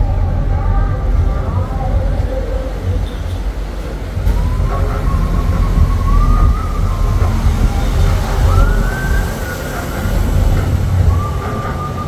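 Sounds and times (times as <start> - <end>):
vehicle rumble: 0.0 - 12.0
wind on microphone: 0.0 - 12.0.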